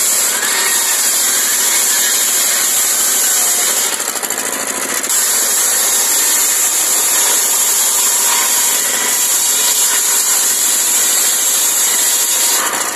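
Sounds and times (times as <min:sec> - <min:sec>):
circular saw cutting wood: 0:00.0 - 0:12.9
engine running: 0:00.0 - 0:12.9.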